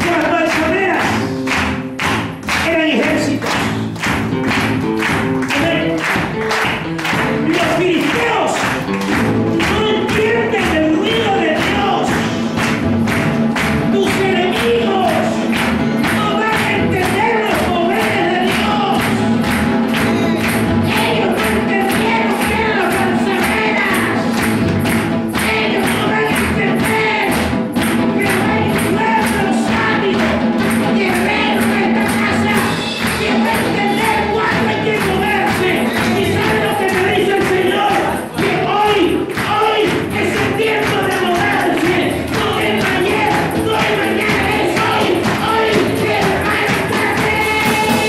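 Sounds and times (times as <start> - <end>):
band playing worship music: 0.0 - 48.0
group singing: 7.2 - 48.0.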